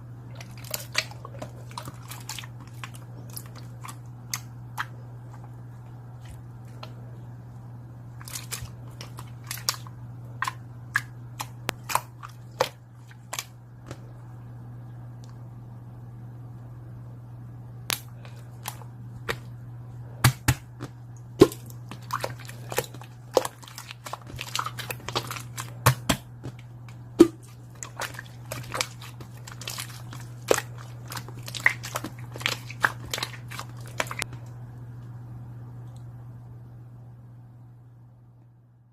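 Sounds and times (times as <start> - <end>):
low hum: 0.0 - 38.9.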